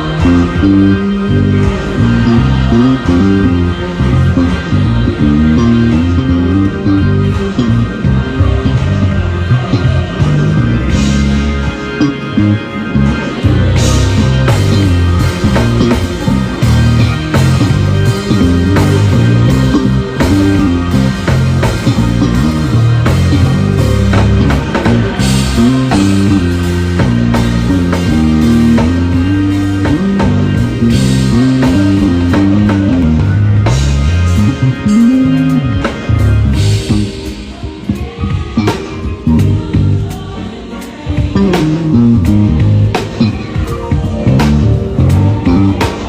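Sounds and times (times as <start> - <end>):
drum kit and cymbals: 0.0 - 46.0
electric bass line: 0.0 - 46.0.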